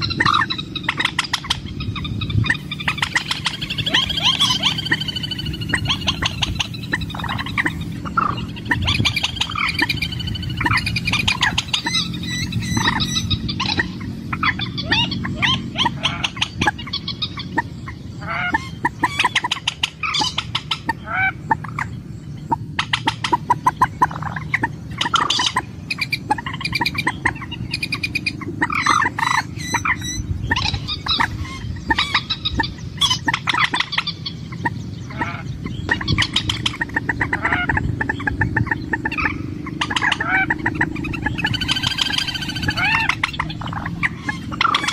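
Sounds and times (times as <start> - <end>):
bird clucking calls: 0.0 - 44.9
steady low hum: 0.0 - 44.9.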